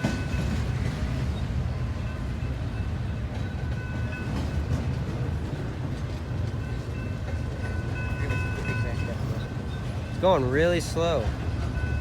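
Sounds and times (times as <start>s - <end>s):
freight train rumbling on rails: 0.0s - 12.0s.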